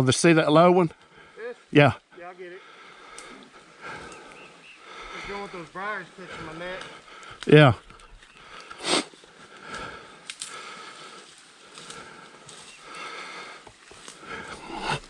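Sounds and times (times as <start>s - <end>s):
person breathing heavily: 1.0s - 15.0s.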